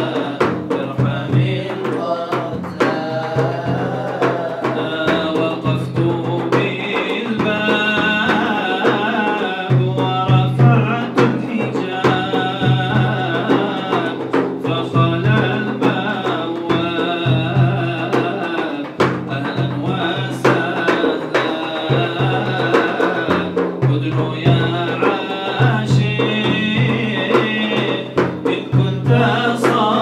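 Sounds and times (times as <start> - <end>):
drum beat: 0.0 - 30.0
man singing into microphone: 0.0 - 30.0.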